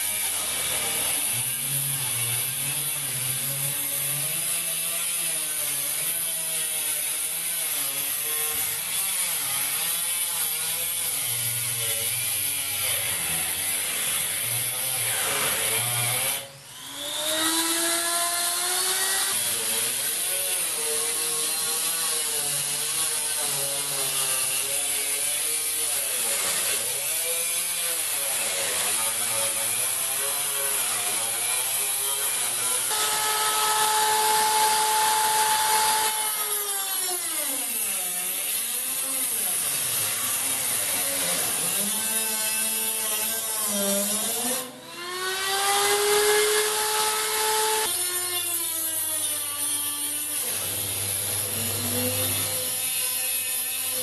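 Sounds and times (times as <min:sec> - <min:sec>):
die grinder cutting sheet steel: 0:00.0 - 0:54.0.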